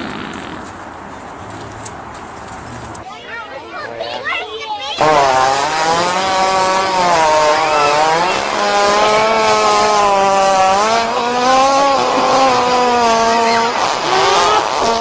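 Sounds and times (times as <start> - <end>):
long buzzing fart: 0.0 - 3.0, 5.0 - 15.0.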